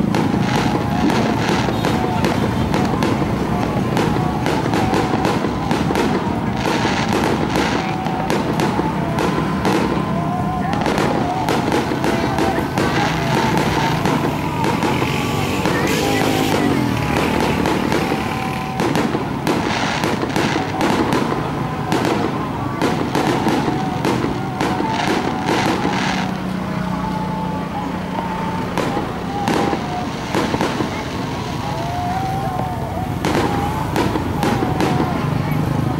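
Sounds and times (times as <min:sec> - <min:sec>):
fireworks bangs and pops: 0:00.0 - 0:35.9.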